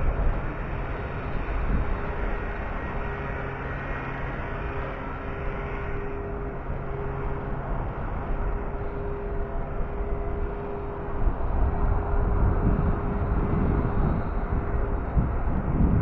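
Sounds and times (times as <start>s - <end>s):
faint engine-like hum: 0.0s - 16.0s
low rumble: 0.0s - 16.0s.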